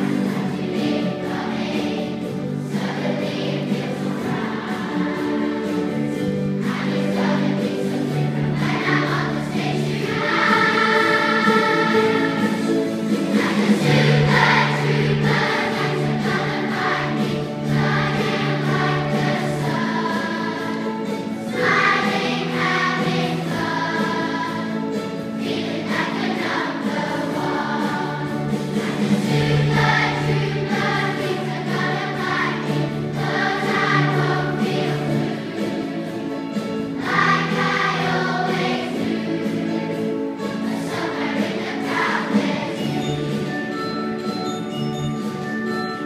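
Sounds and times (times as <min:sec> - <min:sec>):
choir singing with accompaniment: 0:00.0 - 0:45.4.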